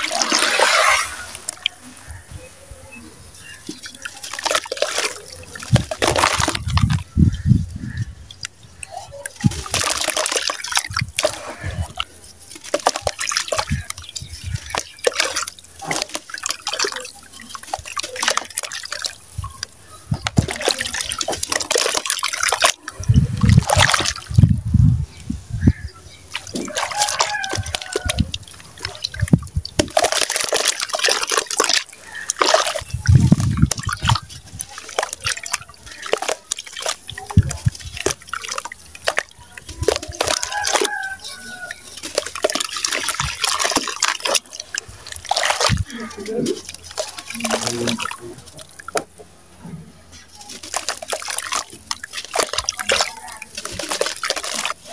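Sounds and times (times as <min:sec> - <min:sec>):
crumbling cement into water: 0:00.0 - 0:01.8, 0:03.4 - 0:07.4, 0:08.0 - 0:24.6, 0:26.3 - 0:49.2, 0:50.1 - 0:54.9
hand sloshing through water: 0:00.0 - 0:02.6, 0:03.2 - 0:24.7, 0:25.6 - 0:54.9.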